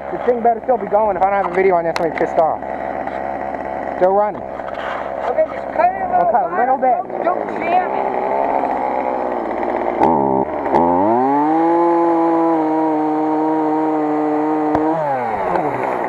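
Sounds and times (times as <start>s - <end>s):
chainsaw idling and revving: 0.0s - 16.0s.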